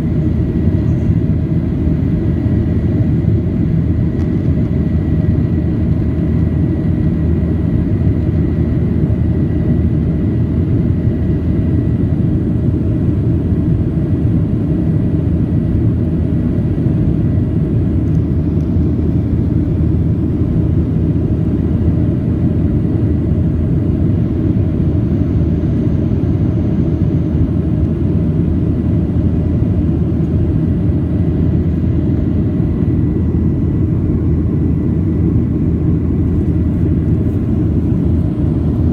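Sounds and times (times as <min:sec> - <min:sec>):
faint steady whine: 0:00.0 - 0:38.9
jet engine cabin rumble: 0:00.0 - 0:38.9.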